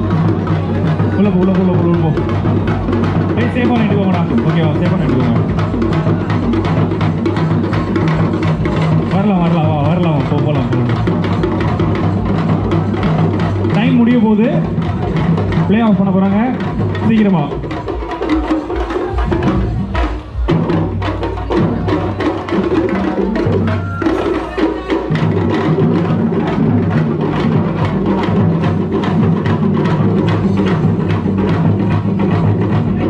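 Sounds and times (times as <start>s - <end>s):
fast drumming: 0.0s - 33.0s
live band playing loud music: 0.0s - 33.0s.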